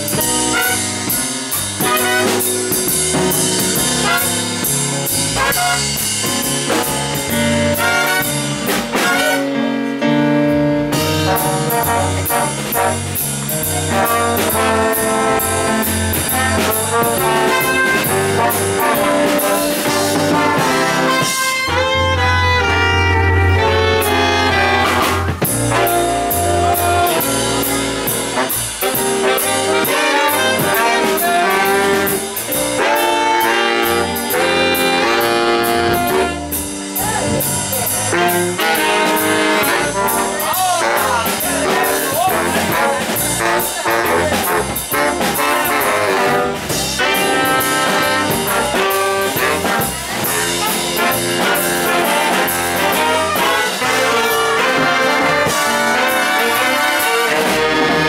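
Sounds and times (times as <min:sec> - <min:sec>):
jazz horn section playing: 0:00.0 - 0:58.0.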